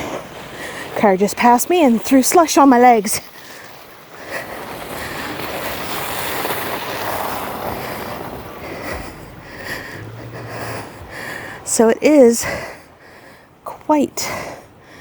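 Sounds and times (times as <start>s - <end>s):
car tyres hissing through slush: 0.0s - 13.6s.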